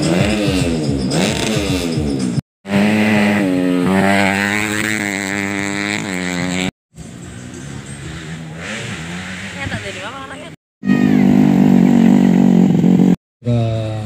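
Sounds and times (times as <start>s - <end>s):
dirt bike engines running: 0.0s - 14.0s.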